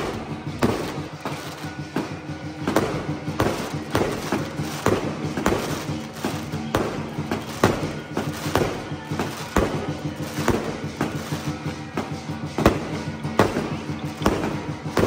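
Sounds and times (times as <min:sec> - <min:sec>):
firework shells bursting: 0:00.0 - 0:15.0
music playing: 0:00.0 - 0:15.0.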